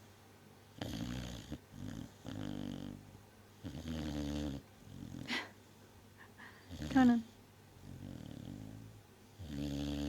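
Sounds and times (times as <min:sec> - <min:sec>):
dog snoring: 0:00.7 - 0:05.4, 0:06.6 - 0:10.0.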